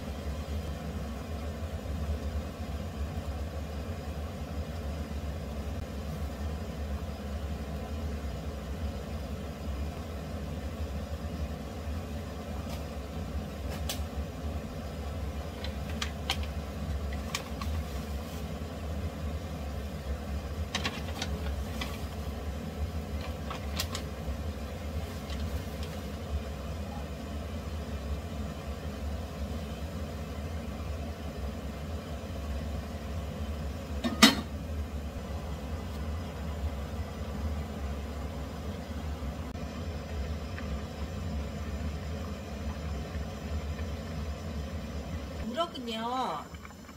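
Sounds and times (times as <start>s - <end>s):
broth boiling and bubbling: 0.0s - 46.9s.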